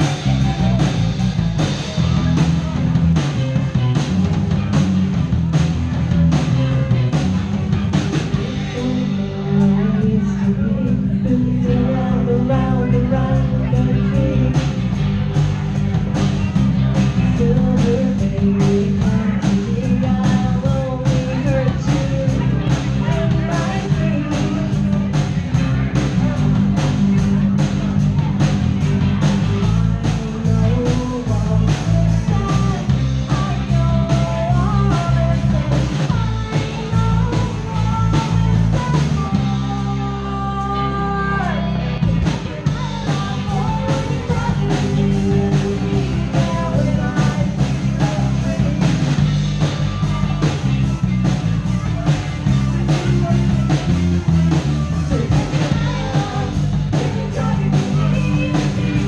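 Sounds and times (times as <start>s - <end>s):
drums: 0.0s - 59.0s
live rock band playing: 0.0s - 59.0s
person singing: 8.0s - 15.3s, 16.8s - 59.0s.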